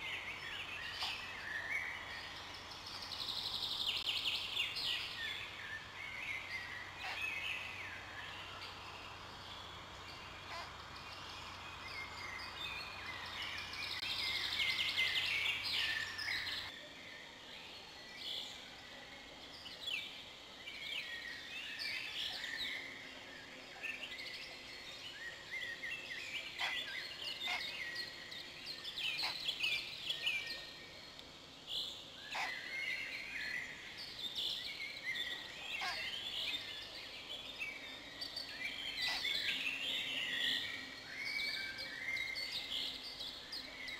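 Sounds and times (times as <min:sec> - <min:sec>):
songbirds singing and chirping: 0:00.0 - 0:43.9.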